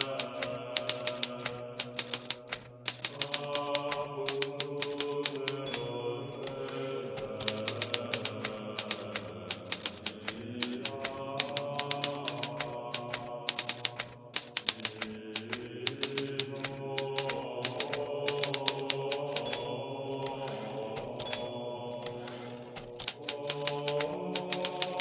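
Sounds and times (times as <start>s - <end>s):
typewriter key strikes: 0.0s - 25.0s.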